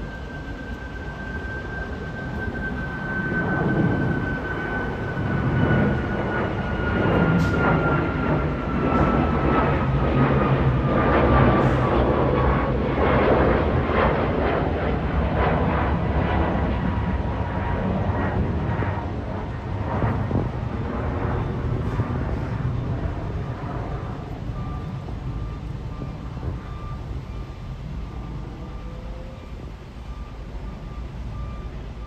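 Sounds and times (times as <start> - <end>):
jet airliner rumble with whine: 0.0 - 32.0.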